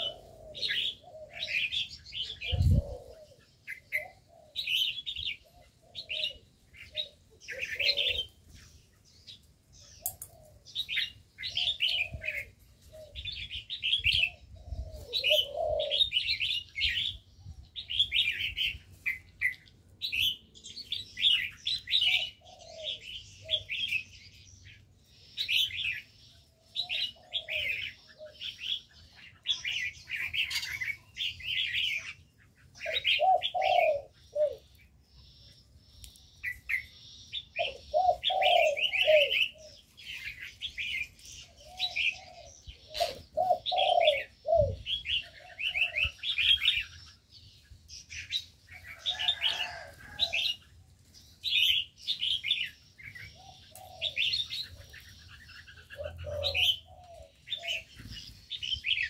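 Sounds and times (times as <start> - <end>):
birds chirping and twittering: 0.0 - 59.0.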